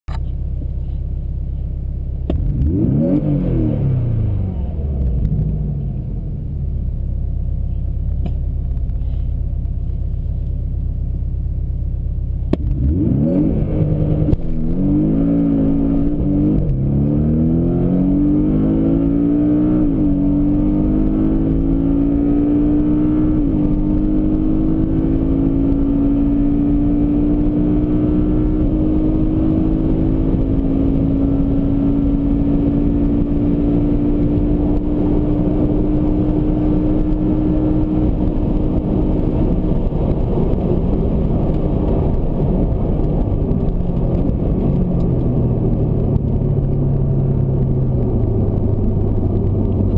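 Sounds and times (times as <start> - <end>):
sports car engine revving: 2.2 - 6.8, 12.4 - 49.9.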